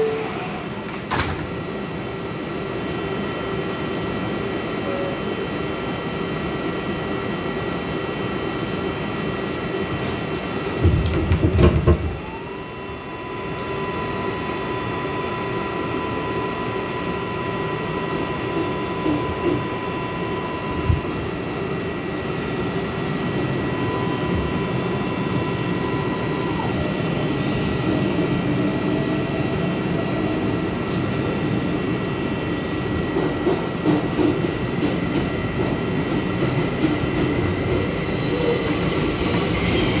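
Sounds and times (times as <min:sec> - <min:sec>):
train wheels rumbling on rails: 0:00.0 - 0:14.1, 0:15.4 - 0:40.0.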